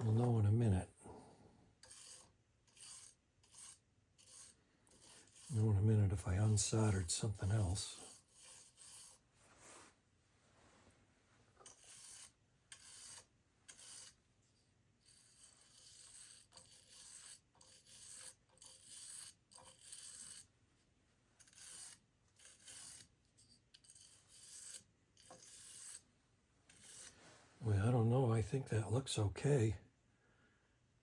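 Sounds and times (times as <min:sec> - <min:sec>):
faint scraping on wires: 0:01.8 - 0:20.5, 0:21.4 - 0:26.1, 0:26.7 - 0:28.4.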